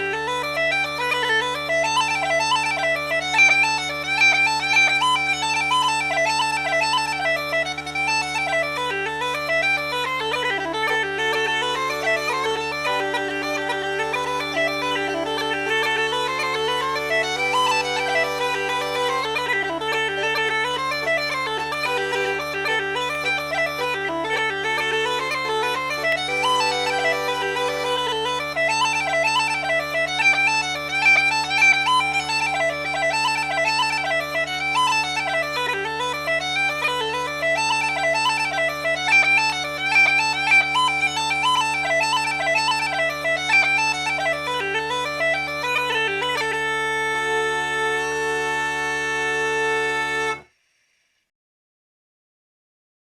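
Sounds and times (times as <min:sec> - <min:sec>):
bagpipes playing a fast reel: 0:00.0 - 0:50.8.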